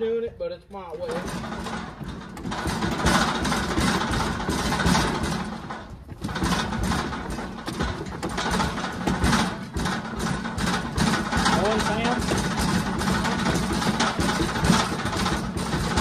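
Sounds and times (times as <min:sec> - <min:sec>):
knocks and rattles: 0:00.9 - 0:16.0
engine running steadily: 0:01.1 - 0:16.0.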